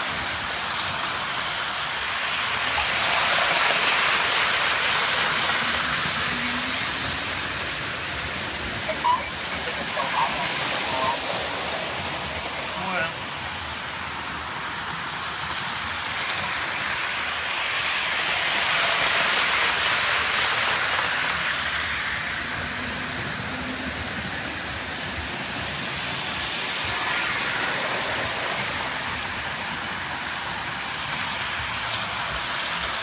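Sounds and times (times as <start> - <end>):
model trains rolling: 0.0 - 33.0.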